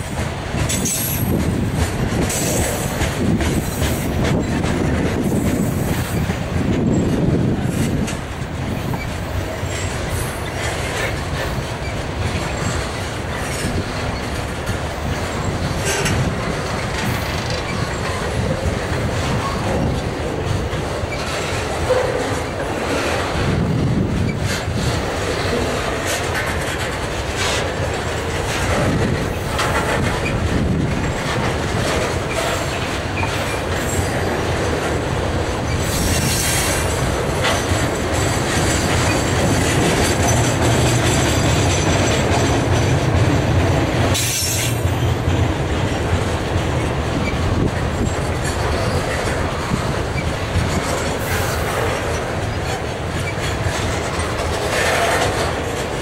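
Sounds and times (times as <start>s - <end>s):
train wheels rumbling on rails: 0.0s - 56.0s
wheels clacking over rail joints: 0.0s - 56.0s.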